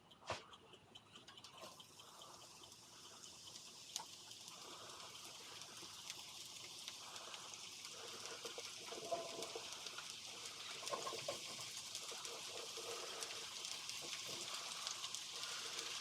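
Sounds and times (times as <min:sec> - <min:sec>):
vegetables sizzling in a pan: 0:02.0 - 0:16.0.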